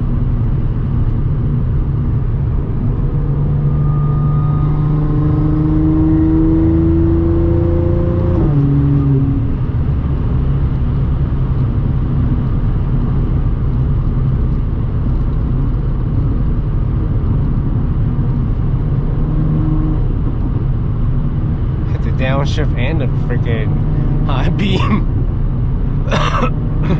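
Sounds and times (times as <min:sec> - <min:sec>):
car engine accelerating: 0:00.0 - 0:26.9
road noise: 0:00.0 - 0:26.9.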